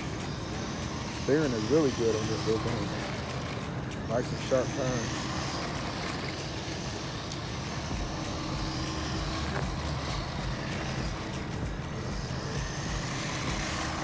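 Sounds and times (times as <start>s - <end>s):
electric motor whine: 0.0s - 14.0s
steady low hum: 0.0s - 14.0s.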